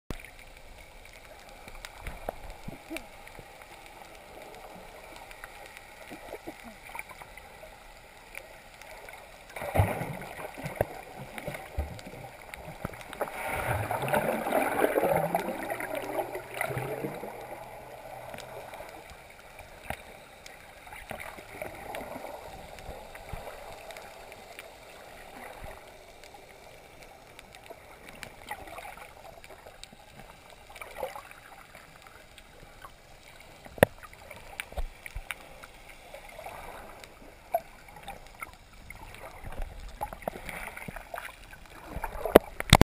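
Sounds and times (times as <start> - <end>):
small clicks: 0.1 - 13.4, 15.4 - 36.0, 36.9 - 42.8
muffled underwater water noise: 0.1 - 42.8.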